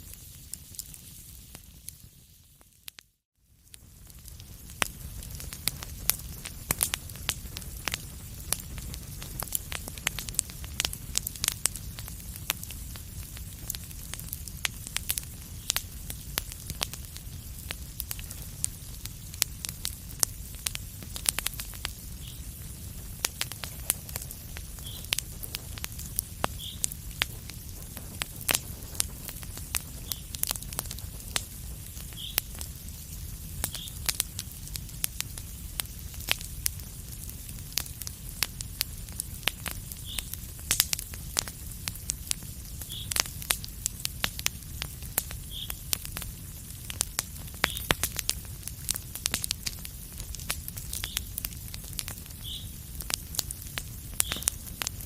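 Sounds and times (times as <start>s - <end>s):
low rumble of flames: 0.0s - 2.4s, 3.4s - 55.0s
wood fire crackling and popping: 0.0s - 55.0s.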